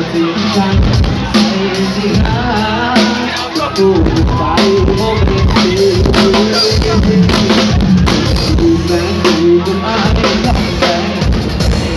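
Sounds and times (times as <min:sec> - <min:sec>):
loud amplified band music: 0:00.0 - 0:11.9.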